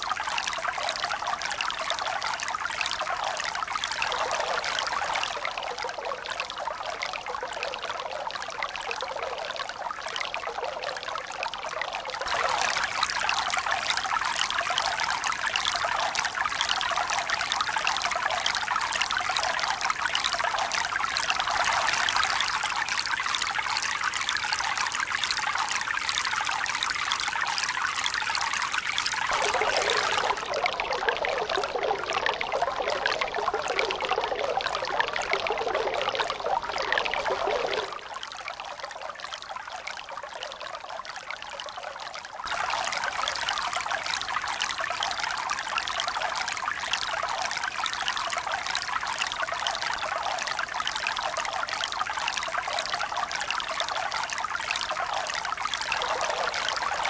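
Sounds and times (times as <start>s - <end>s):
flowing water: 0.0s - 57.0s.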